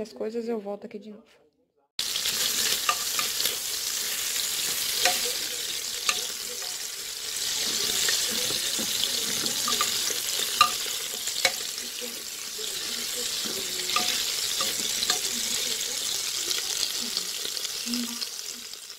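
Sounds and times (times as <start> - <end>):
meat sizzling in oil: 2.0 - 18.9.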